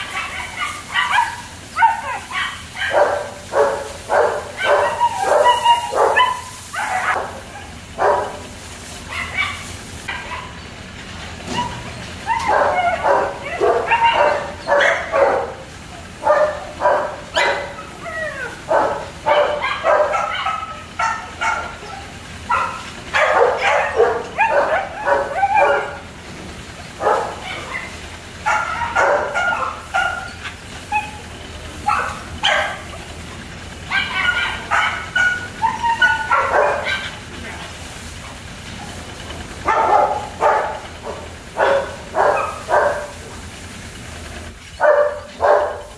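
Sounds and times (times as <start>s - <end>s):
dogs barking and yipping: 0.0s - 45.9s.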